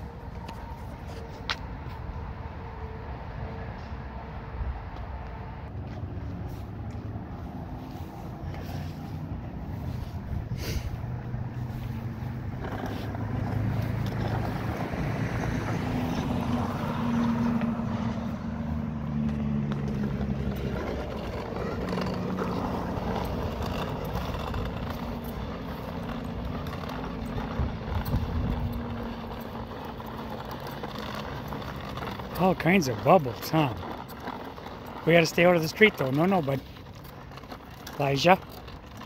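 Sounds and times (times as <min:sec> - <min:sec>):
vehicle engine running: 0:05.6 - 0:39.0.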